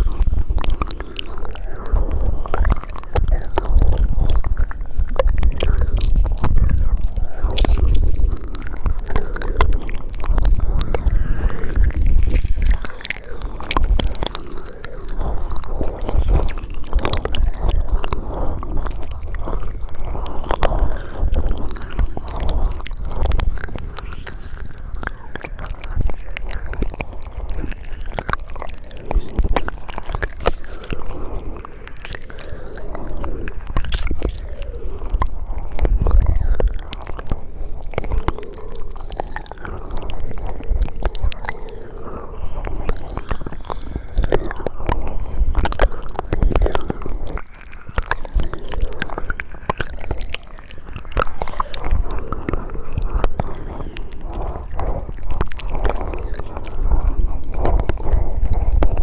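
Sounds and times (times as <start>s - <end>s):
wet mouth clicks and smacks: 0.0s - 59.0s.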